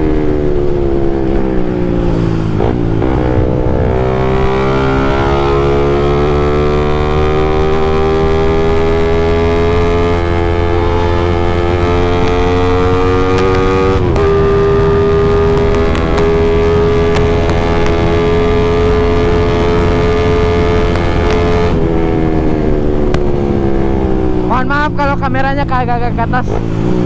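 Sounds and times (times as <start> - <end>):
motorcycle engine at full throttle: 0.0 - 27.0
wind rush: 0.0 - 27.0.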